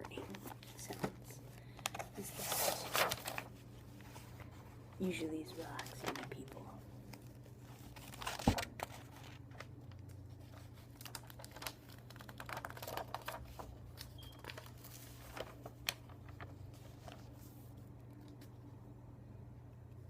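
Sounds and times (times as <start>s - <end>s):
book pages turning: 0.0s - 18.7s
steady low hum: 0.0s - 20.0s.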